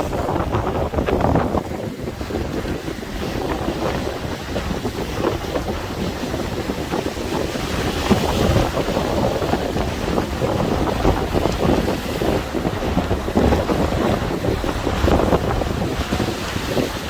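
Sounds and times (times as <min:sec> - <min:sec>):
waves washing against shore: 0:00.0 - 0:17.0
wind buffeting microphone: 0:00.0 - 0:17.0.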